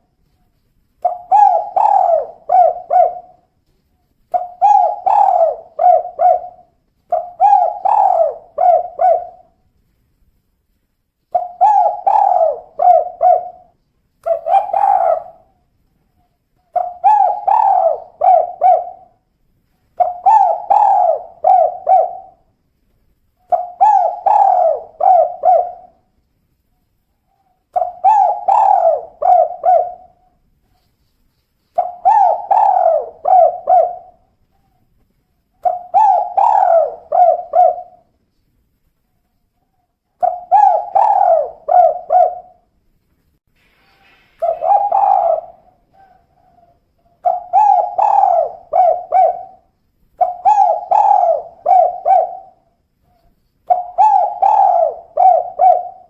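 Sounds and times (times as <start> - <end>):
dove cooing: 1.0 - 9.6, 11.3 - 15.6, 16.2 - 19.3, 19.9 - 22.5, 23.4 - 26.1, 27.2 - 30.8, 31.8 - 34.8, 35.6 - 38.1, 39.6 - 42.6, 43.7 - 56.0.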